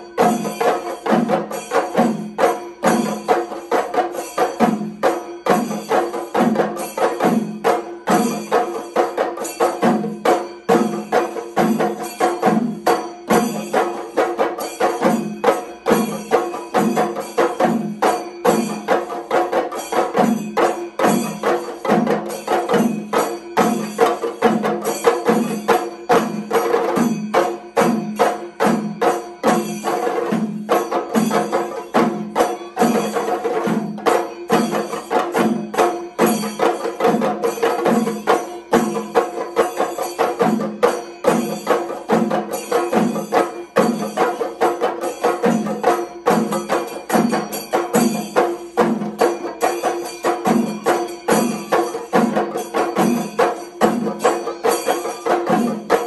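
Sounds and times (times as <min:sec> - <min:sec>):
cymbals ringing: 0:00.0 - 0:56.0
drum ensemble playing: 0:00.0 - 0:56.0.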